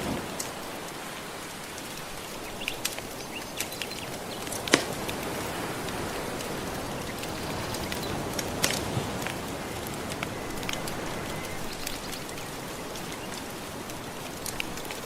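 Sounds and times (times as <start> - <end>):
ocean waves washing: 0.0 - 15.0
wood fire crackling: 0.0 - 15.0.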